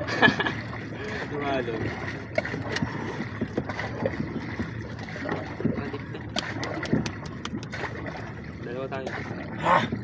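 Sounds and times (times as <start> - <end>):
paddles splashing water: 0.0 - 10.0.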